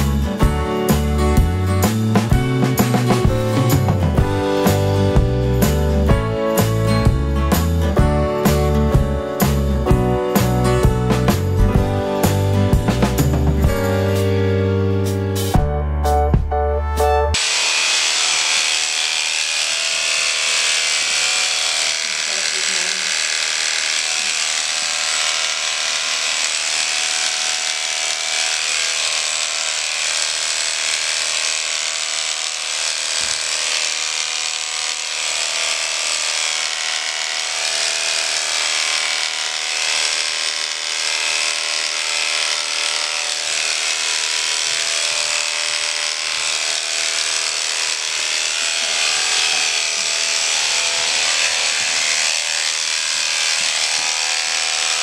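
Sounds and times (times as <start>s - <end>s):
electric clippers buzzing: 0.0s - 15.6s, 17.3s - 55.0s.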